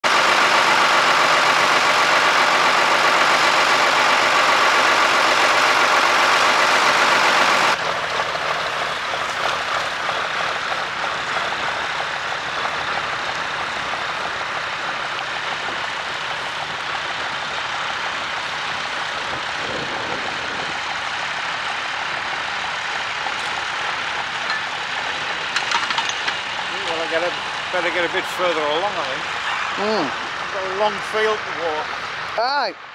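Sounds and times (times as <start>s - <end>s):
distant tractor pulling plough: 0.0s - 32.9s
outdoor noise: 0.0s - 32.9s
tractor diesel engine running: 0.0s - 32.9s.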